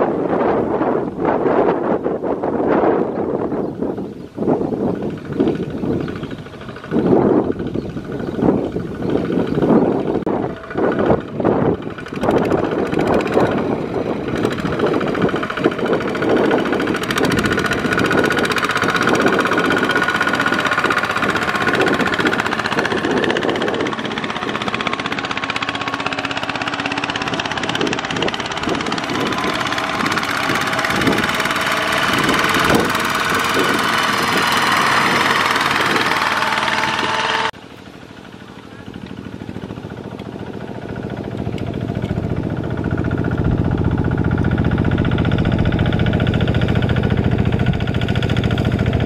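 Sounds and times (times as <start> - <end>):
diesel engine knocking: 3.8 - 37.6, 38.2 - 49.0
wheels splashing through mud: 4.8 - 49.0.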